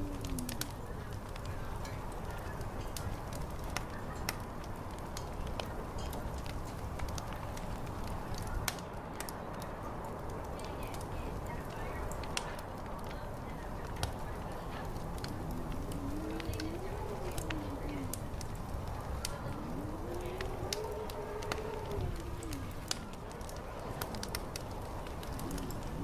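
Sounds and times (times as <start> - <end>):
fire crackling and popping: 0.0 - 26.0
steady low background noise: 0.0 - 26.0.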